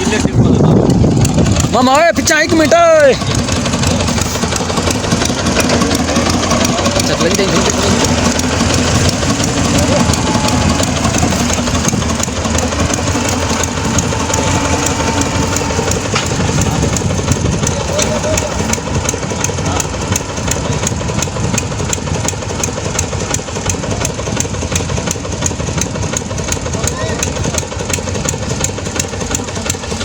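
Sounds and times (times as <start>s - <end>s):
diesel engine running: 0.0s - 30.0s
regular ticks: 0.0s - 30.0s.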